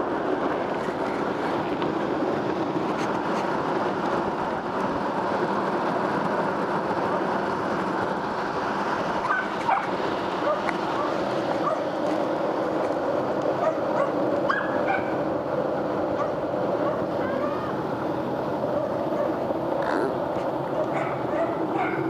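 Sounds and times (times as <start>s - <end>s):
skateboard wheels rolling on asphalt: 0.0s - 22.0s.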